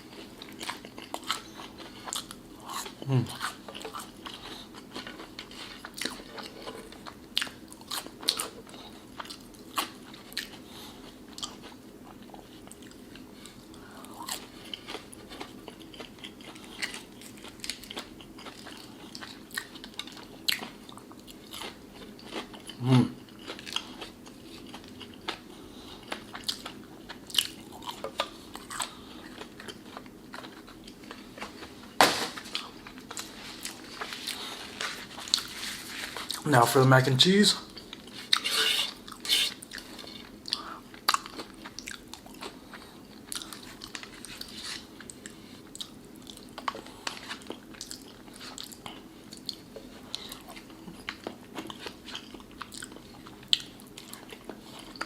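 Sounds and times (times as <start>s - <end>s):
person chewing and crunching: 0.0s - 36.8s, 37.6s - 55.0s.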